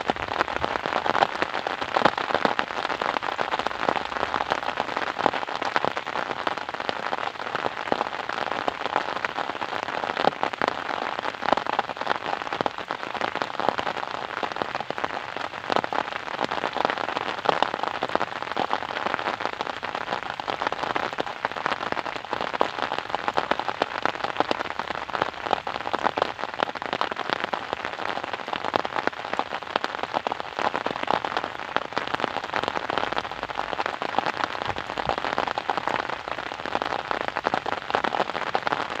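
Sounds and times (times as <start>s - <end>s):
steady rain patter: 0.0s - 39.0s.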